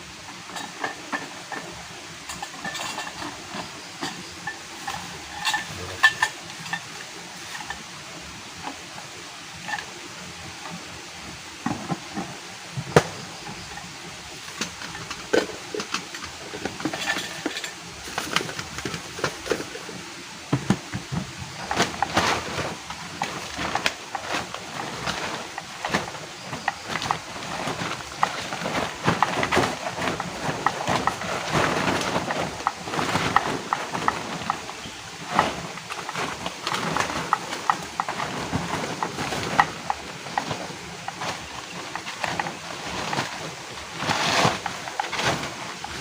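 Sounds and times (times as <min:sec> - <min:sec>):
steady hiss: 0:00.0 - 0:46.0.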